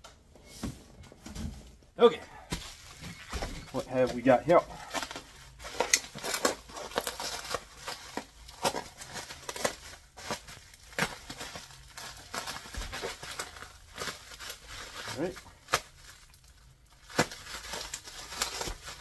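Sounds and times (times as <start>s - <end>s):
bubble wrap crackling: 2.5s - 19.0s.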